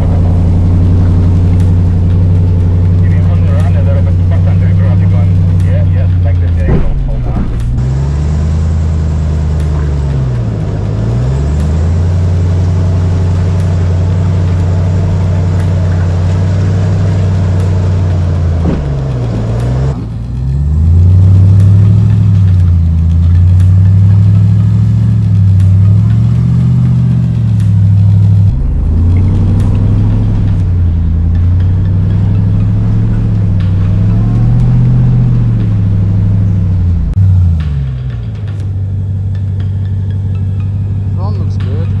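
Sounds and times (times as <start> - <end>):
pickup truck engine revving: 0.0 - 42.0.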